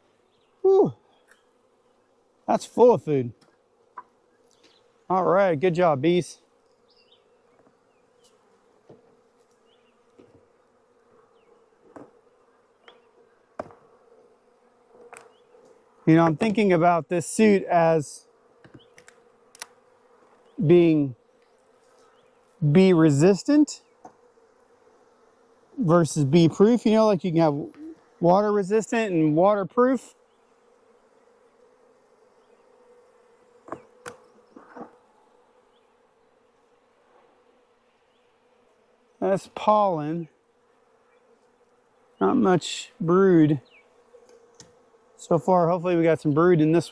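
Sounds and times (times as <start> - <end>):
honey bees buzzing: 0.0 - 46.9.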